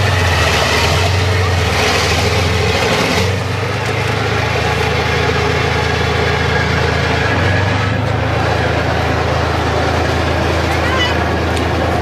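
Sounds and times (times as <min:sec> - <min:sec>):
tank diesel engine running: 0:00.0 - 0:12.0.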